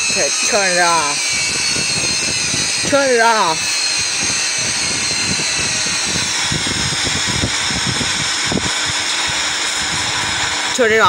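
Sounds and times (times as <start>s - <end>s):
faint high motor whine: 0.0s - 11.0s
washing machine drum spinning: 0.0s - 11.0s.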